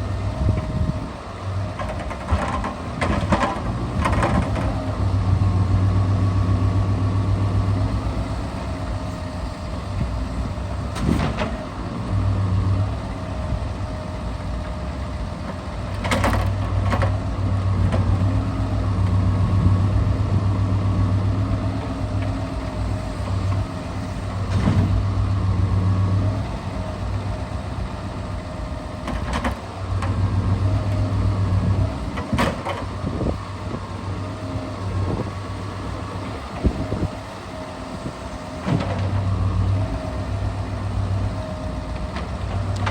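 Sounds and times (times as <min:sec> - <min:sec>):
truck engine running: 0:00.0 - 0:42.9.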